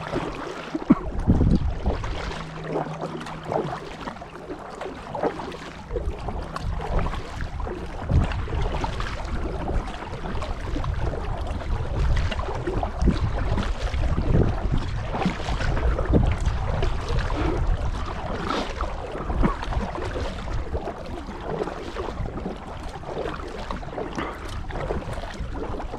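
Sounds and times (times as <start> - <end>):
paddle splashing in water: 0.0 - 25.9
wind rumbling on microphone: 0.0 - 25.9.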